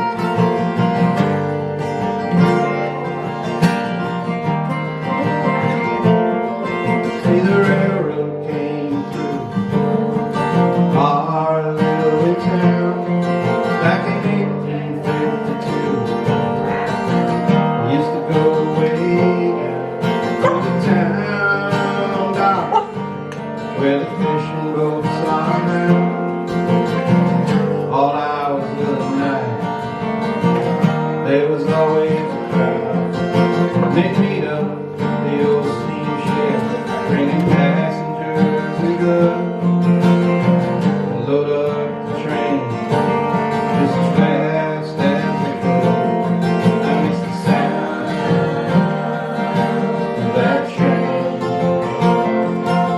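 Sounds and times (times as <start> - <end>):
strummed acoustic guitar: 0.0 - 52.9.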